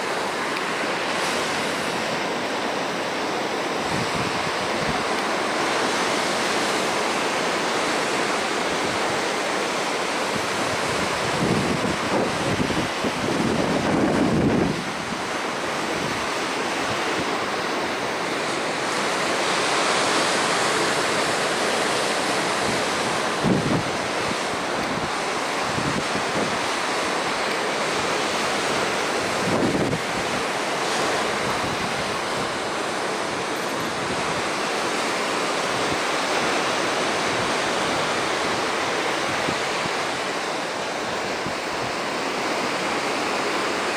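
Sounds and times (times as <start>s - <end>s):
ocean surf breaking: 0.0s - 43.9s
wind buffeting the microphone: 3.6s - 6.2s, 8.4s - 19.3s, 20.1s - 43.9s.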